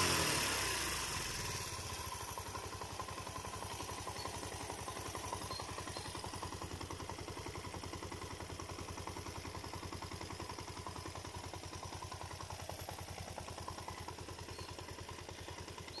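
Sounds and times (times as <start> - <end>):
motorcycle engine idling with knocking: 0.0 - 16.0.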